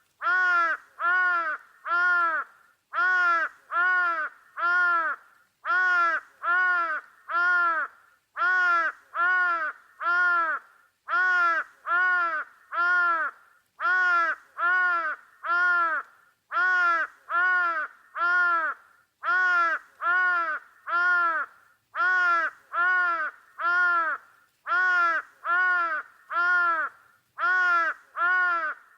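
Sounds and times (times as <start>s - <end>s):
crow cawing: 0.2s - 28.9s.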